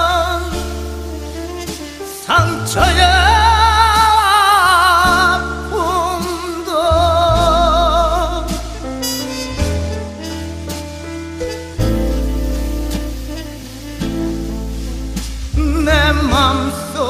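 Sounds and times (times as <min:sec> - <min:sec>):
steady bass line: 0:00.0 - 0:17.0.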